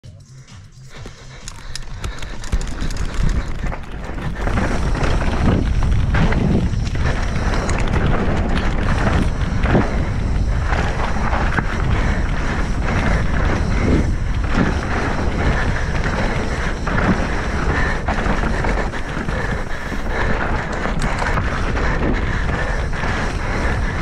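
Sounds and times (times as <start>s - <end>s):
bike chain and frame rattling: 0.8s - 24.0s
tyres crunching over dirt and stones: 1.0s - 24.0s
wind buffeting microphone: 1.4s - 24.0s.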